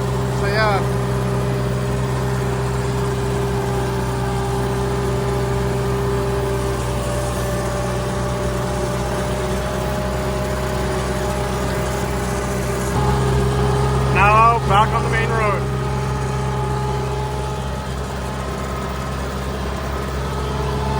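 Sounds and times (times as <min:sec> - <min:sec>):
tractor engine and mower running: 0:00.0 - 0:20.9.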